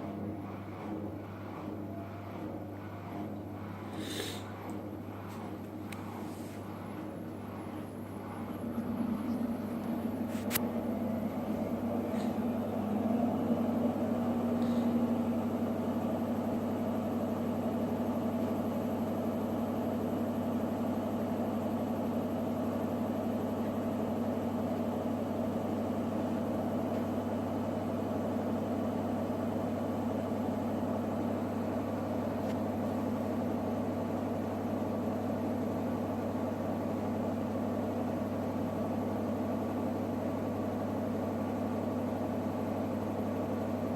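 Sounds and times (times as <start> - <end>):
washing machine drum spinning: 4.6 - 43.9.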